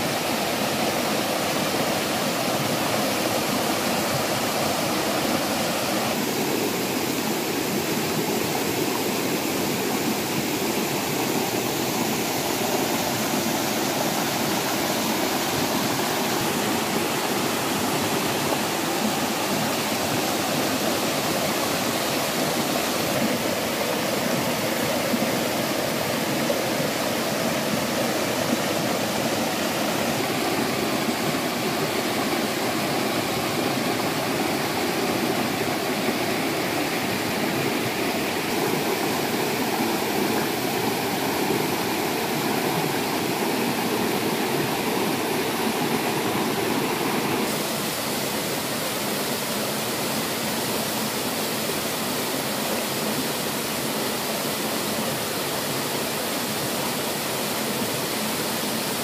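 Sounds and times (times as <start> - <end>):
waterfall cascading over rocks: 0.0 - 59.0.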